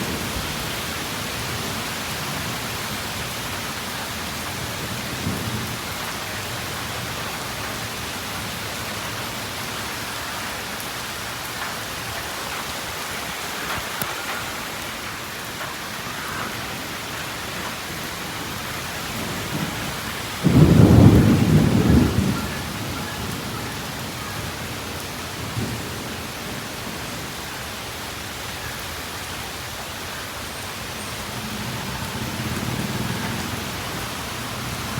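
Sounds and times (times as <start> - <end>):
thunder rumbling: 0.0 - 27.5, 31.2 - 34.9
steady rain falling: 0.0 - 34.9.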